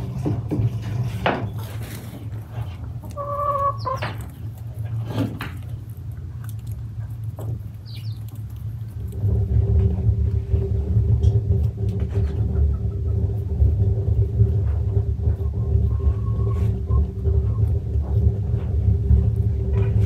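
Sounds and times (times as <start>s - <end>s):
constant hum: 0.0s - 20.0s
motor running low rumble: 0.0s - 20.0s.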